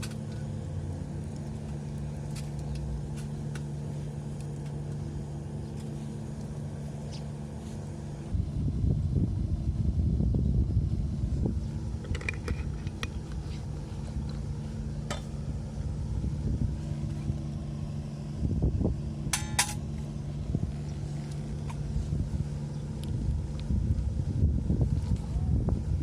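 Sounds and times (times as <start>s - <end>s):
low engine-like hum: 0.0s - 26.0s.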